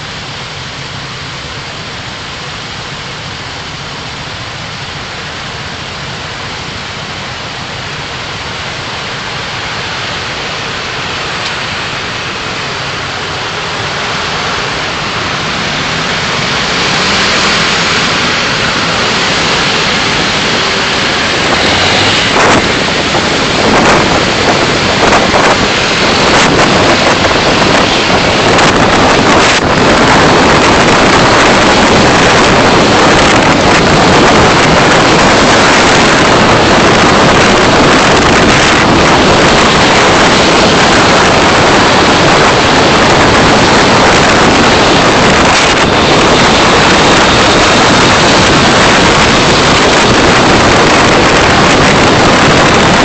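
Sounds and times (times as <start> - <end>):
car road and wind noise: 0.0 - 53.0.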